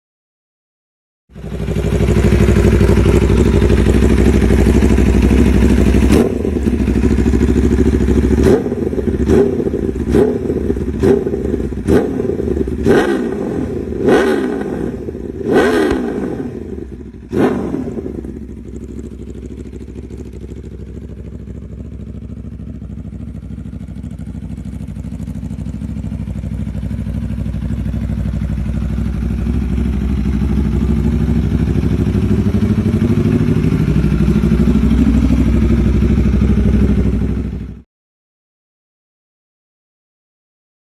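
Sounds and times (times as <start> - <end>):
motorcycle engine throttle blips: 1.4 - 37.8.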